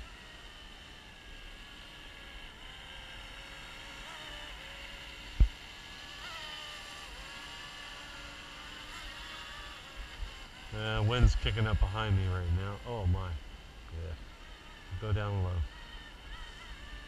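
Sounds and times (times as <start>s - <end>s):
toy helicopter rotor whine: 0.0s - 17.0s.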